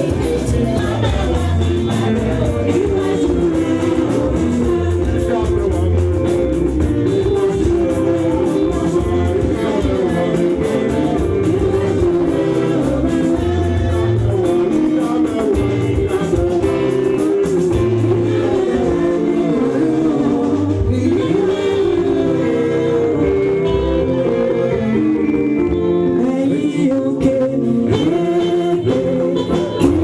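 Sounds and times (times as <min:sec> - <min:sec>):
church choir singing: 0:00.0 - 0:06.0, 0:07.1 - 0:25.4
keyboard accompaniment: 0:00.0 - 0:30.0
singer on a microphone: 0:00.0 - 0:30.0.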